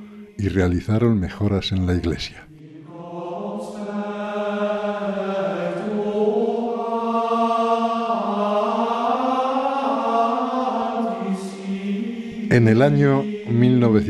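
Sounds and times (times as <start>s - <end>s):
voices singing chant: 0.0s - 14.0s.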